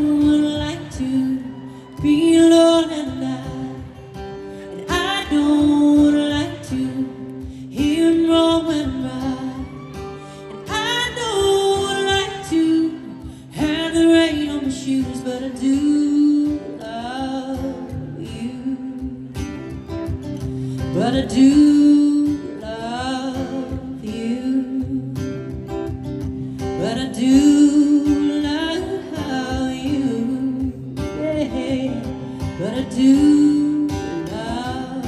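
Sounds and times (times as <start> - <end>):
acoustic guitar: 0.0 - 35.0
woman singing a slow ballad: 0.0 - 35.0.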